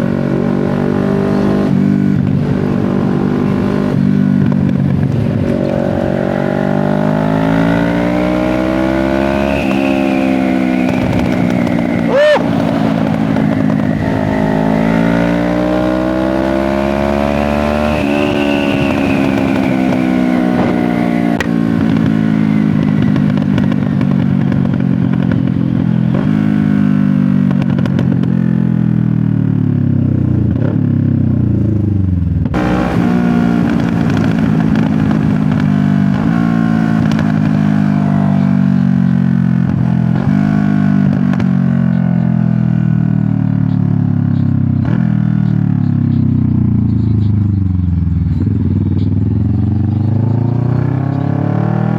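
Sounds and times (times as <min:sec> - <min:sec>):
loud motorcycle engine: 0:00.0 - 0:51.9.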